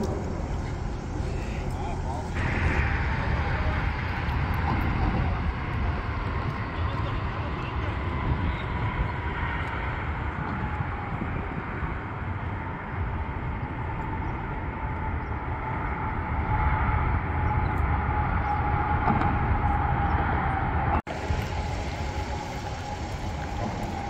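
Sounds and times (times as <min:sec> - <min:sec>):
faint steady whine: 0:00.0 - 0:24.0
road traffic noise: 0:00.0 - 0:24.0.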